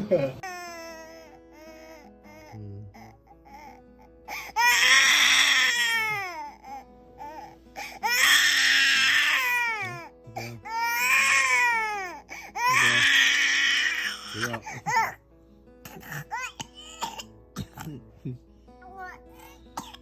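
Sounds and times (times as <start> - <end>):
baby crying: 0.4 - 15.2, 15.9 - 17.3.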